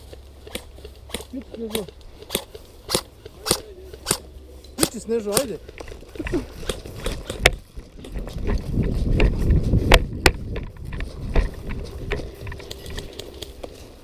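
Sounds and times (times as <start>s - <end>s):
camera handling rustle and thumps: 0.0s - 14.0s
footsteps: 0.0s - 14.0s.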